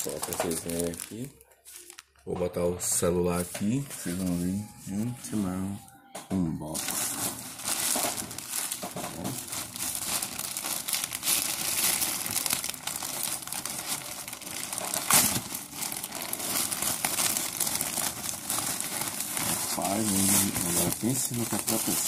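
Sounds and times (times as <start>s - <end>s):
plastic bag crinkling: 0.0s - 2.4s, 3.2s - 5.9s, 6.6s - 22.0s.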